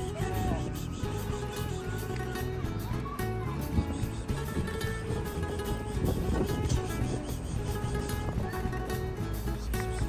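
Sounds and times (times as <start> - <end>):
background music with plucked guitar: 0.0 - 10.0.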